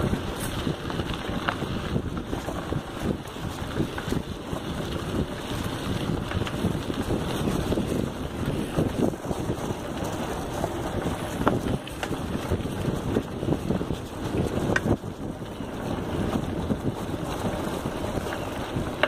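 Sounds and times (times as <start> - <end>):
bicycle rattles and clicks: 0.0 - 19.0
bicycle tyres rolling on dirt: 0.0 - 19.0
wind on microphone: 0.0 - 19.0.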